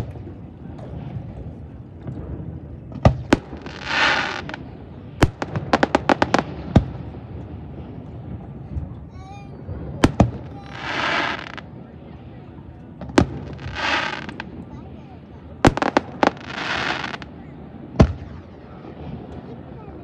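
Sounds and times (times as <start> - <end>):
fireworks bangs: 0.0 - 9.0, 9.6 - 20.0
hissing fireworks bursts: 0.0 - 20.0.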